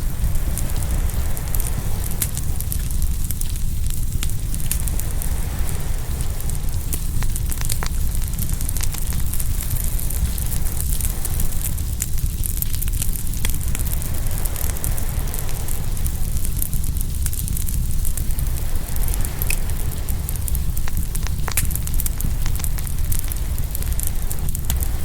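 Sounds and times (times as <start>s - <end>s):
waves breaking on shore: 0.0s - 11.9s, 13.1s - 25.0s
wood fire crackling and popping: 0.0s - 25.0s.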